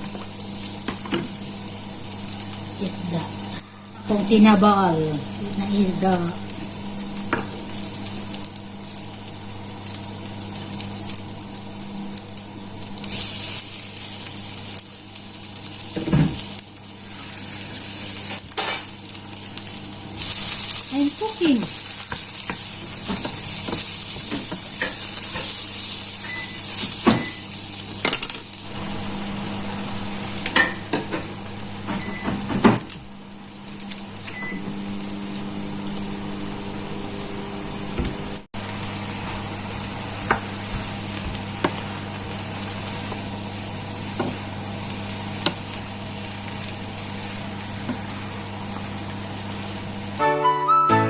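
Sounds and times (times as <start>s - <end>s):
food sizzling in a pan: 0.0s - 50.8s.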